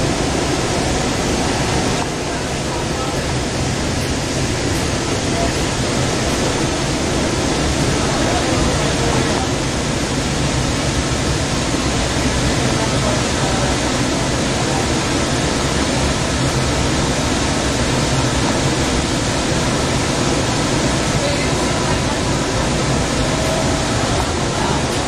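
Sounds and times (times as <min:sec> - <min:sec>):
light rail train running: 0:00.0 - 0:25.0.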